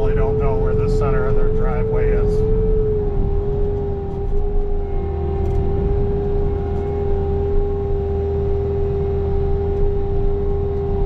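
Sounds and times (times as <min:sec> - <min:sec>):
diesel engine running: 0:00.0 - 0:11.0
snow blower whine: 0:00.0 - 0:11.0.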